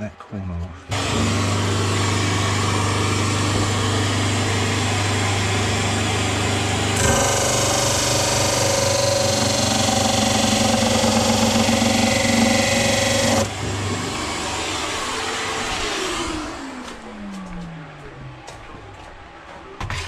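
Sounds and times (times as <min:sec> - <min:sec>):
sander rasping wood: 0:00.9 - 0:17.0
bench sander motor whine: 0:00.9 - 0:18.1.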